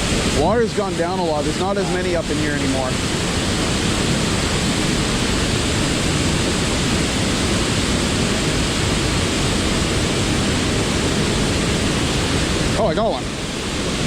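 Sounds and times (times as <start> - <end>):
waterfall and rapids rushing: 0.0 - 14.0.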